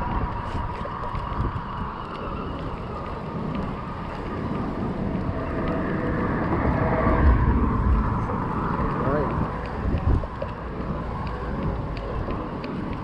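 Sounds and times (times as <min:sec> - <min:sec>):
faint engine hum: 0:00.0 - 0:13.0
wind buffeting microphone: 0:00.0 - 0:13.0.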